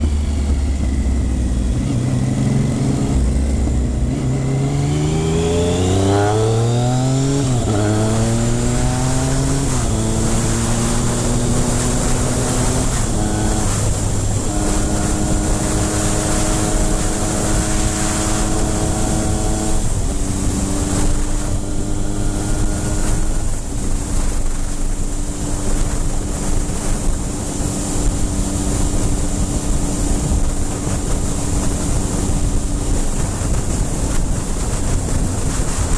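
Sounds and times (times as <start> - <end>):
motorcycle engine accelerating: 0.0 - 35.9
wind rush on microphone: 0.0 - 35.9.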